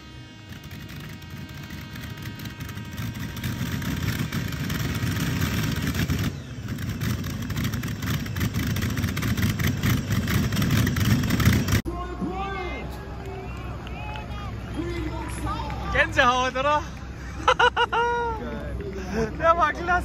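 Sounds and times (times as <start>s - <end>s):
tractor engines at full throttle: 0.0s - 20.0s.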